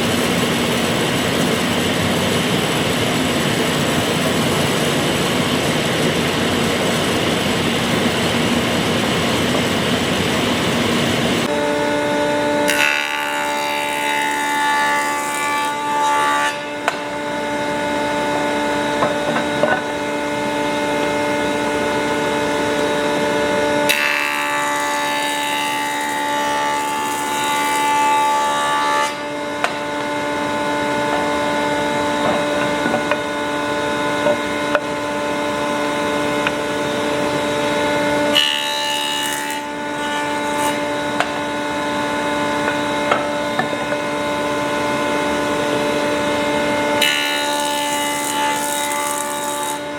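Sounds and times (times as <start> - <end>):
power tool cutting wood: 0.0 - 49.9.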